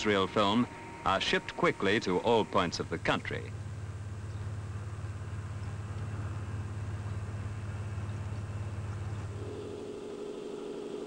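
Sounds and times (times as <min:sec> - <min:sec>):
higher-pitched engine hum: 0:00.0 - 0:11.0
low engine drone: 0:00.0 - 0:11.0.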